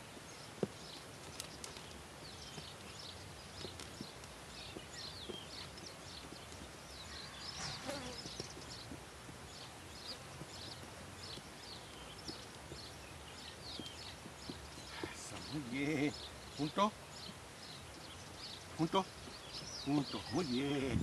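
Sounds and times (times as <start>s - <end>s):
faint high bird chirps: 0.0s - 21.0s.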